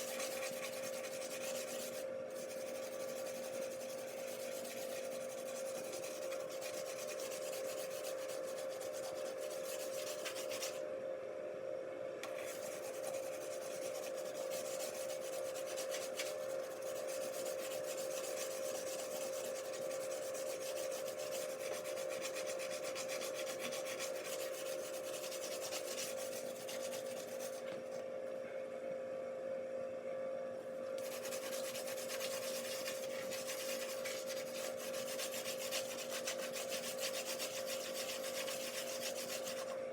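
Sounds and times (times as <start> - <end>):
tablet rubbing on glass: 0.0 - 10.8, 12.3 - 28.0, 31.0 - 39.7
steady hum: 0.0 - 39.9.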